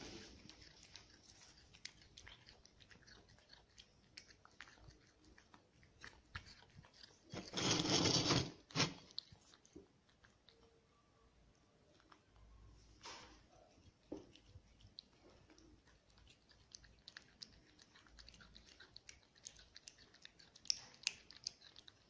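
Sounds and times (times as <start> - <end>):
cat chewing and licking: 0.0 - 22.0.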